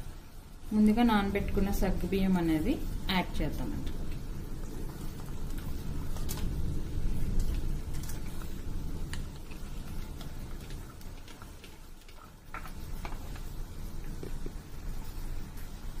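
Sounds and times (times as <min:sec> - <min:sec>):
milk simmering: 0:00.0 - 0:16.0.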